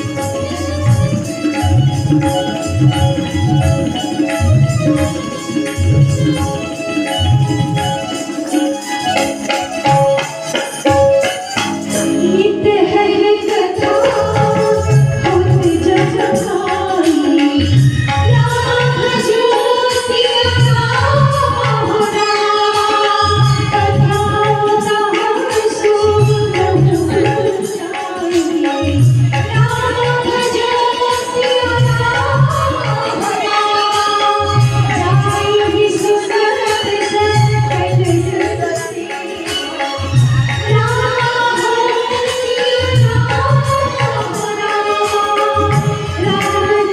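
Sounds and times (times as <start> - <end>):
keyboard melody with gliding notes: 0.0 - 46.9.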